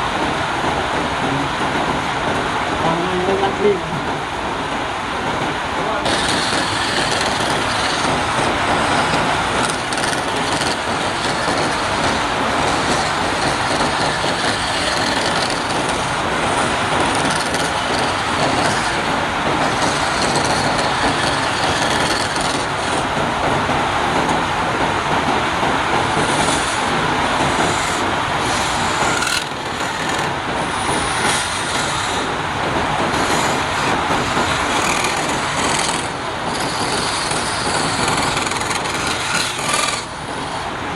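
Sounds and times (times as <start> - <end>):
lathe tool shaving wood: 6.0 - 24.4, 25.5 - 40.8.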